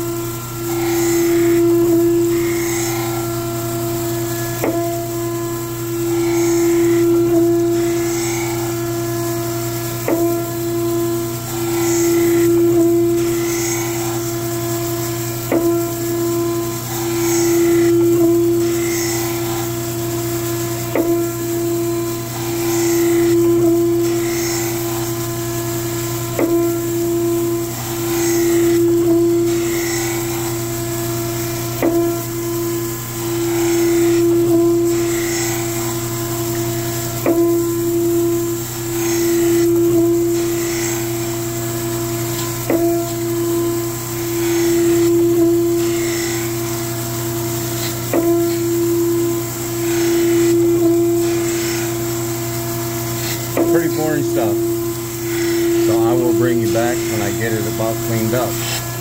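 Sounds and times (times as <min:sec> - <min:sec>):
grinding wheel on metal: 0:00.0 - 0:59.0
spindle humming: 0:00.0 - 0:59.0.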